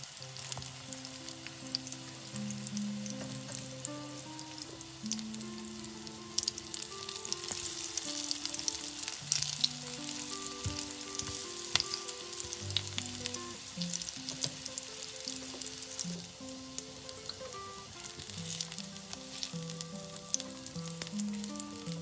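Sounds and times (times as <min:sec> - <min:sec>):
fritters sizzling in oil: 0:00.0 - 0:22.0.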